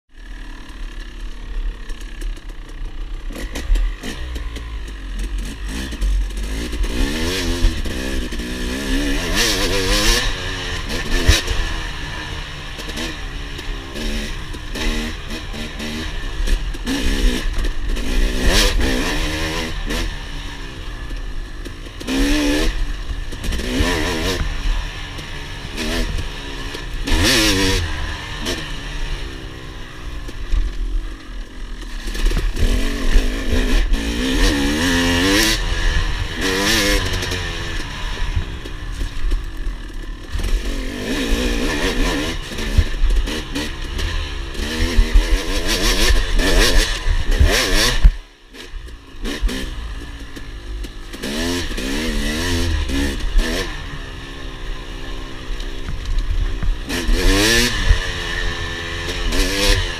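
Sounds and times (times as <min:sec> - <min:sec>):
dirt bike engine revving: 0:00.1 - 0:59.9.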